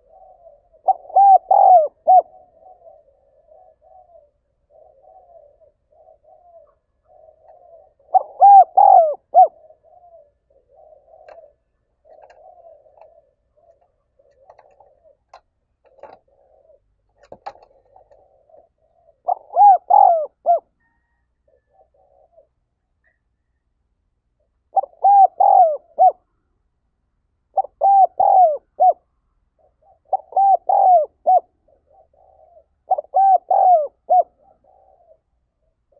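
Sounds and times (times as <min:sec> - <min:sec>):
dove cooing: 0:00.0 - 0:23.2, 0:24.4 - 0:26.5, 0:27.5 - 0:35.9.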